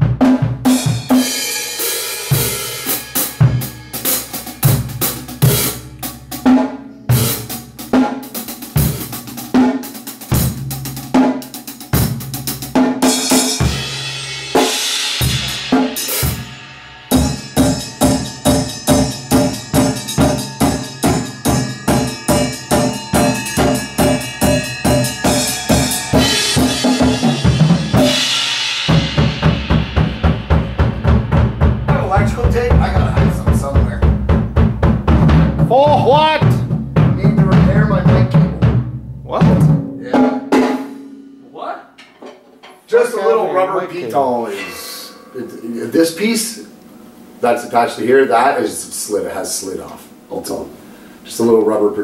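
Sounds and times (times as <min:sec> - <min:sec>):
drum kit playing rock beat: 0:00.0 - 0:42.9, 0:44.5 - 0:48.4
pitched instruments held: 0:00.6 - 0:48.1.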